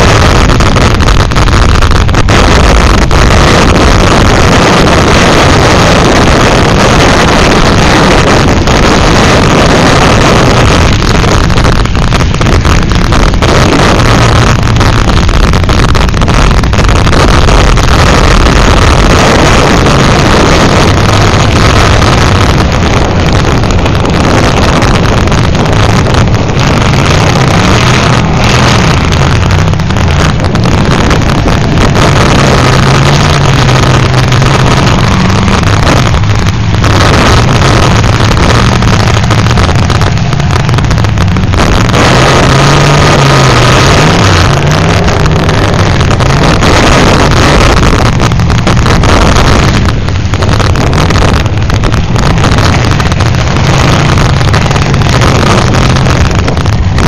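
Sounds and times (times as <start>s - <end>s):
car engines revving: 0.0s - 57.0s
wind buffeting microphone: 0.0s - 57.0s.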